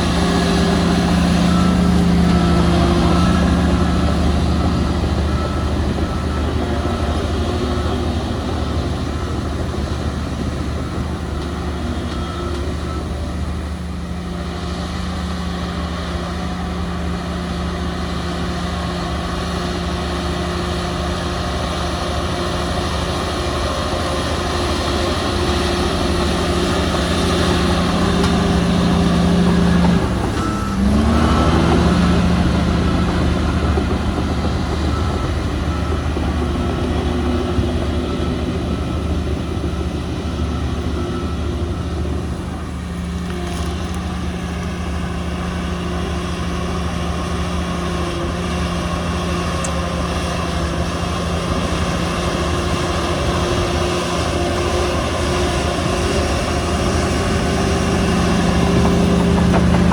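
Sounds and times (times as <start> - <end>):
diesel machinery running: 0.0 - 59.9
reversing alarm beeping: 0.0 - 59.9.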